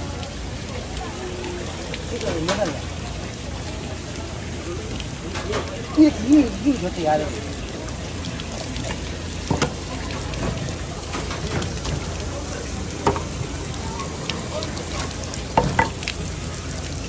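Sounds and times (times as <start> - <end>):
tap water running onto counter: 0.0 - 17.0.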